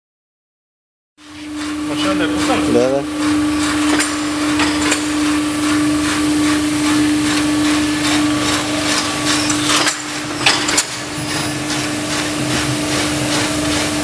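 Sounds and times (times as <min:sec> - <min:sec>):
packaging machine motor hum: 0:01.2 - 0:14.0.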